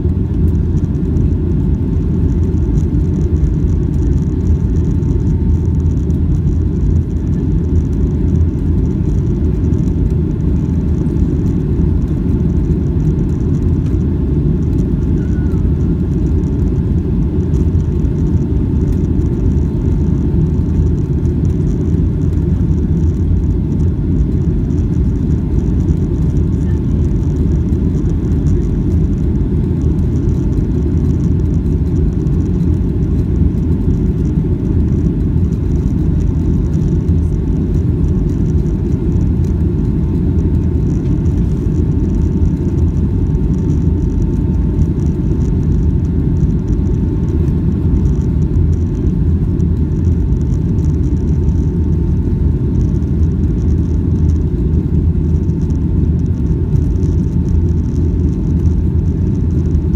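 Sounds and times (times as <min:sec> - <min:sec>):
faint steady whine: 0:00.0 - 0:59.9
loud low rumble of engines: 0:00.0 - 0:59.9.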